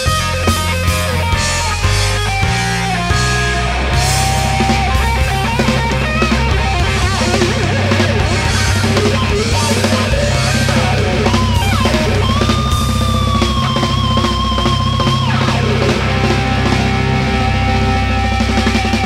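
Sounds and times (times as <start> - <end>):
bass guitar: 0.0 - 19.0
drums: 0.0 - 19.0
electric guitar solo: 0.0 - 19.0.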